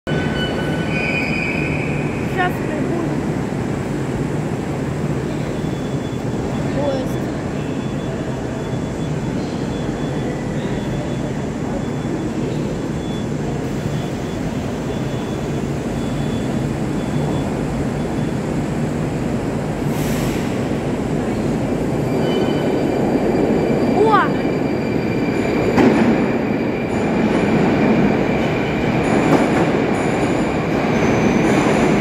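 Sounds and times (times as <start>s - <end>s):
train rumbling in tunnel: 0.0s - 32.0s.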